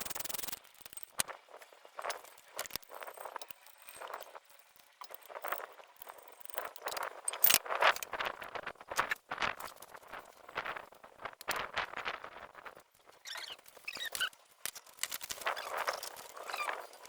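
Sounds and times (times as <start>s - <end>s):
hand tools and metal clinking: 0.0s - 10.6s, 12.7s - 17.0s.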